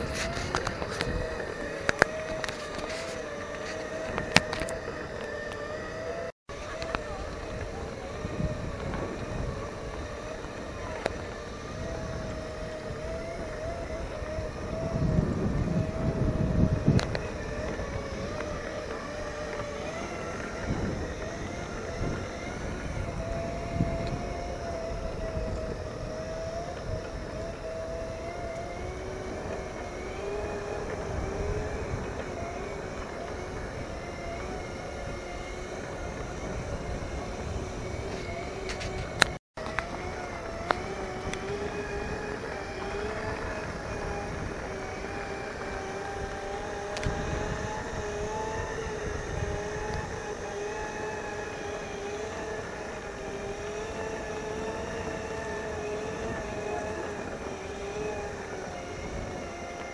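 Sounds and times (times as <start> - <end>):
electric motors whining: 0.0 - 59.9
ground rumble: 0.0 - 59.9.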